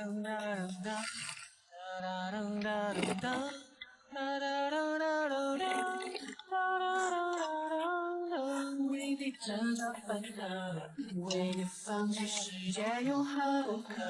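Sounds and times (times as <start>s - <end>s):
woman singing: 0.0s - 1.3s, 2.0s - 14.0s.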